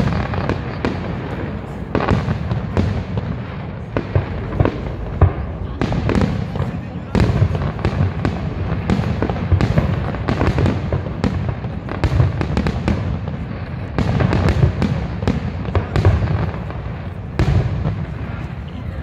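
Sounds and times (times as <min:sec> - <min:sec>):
fireworks bursting: 0:00.0 - 0:19.0
fireworks crackle: 0:00.0 - 0:19.0.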